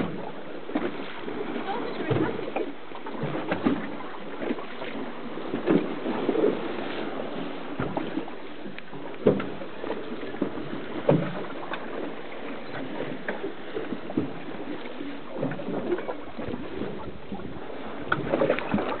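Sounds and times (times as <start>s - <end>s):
water slapping boat hull: 0.0s - 19.0s.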